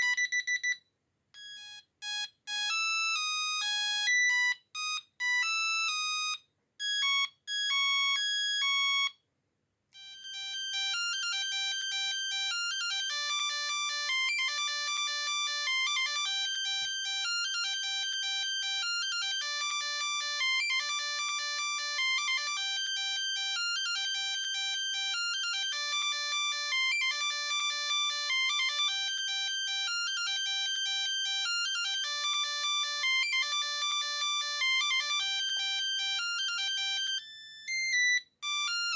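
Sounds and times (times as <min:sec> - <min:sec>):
phone ringtone beeping melody: 0:00.0 - 0:00.8, 0:01.4 - 0:09.1, 0:10.0 - 0:38.9.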